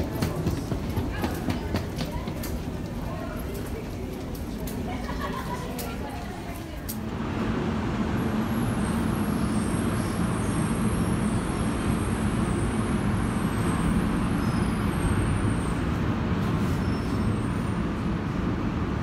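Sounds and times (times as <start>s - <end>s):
vehicle in motion rumble: 0.0s - 19.0s.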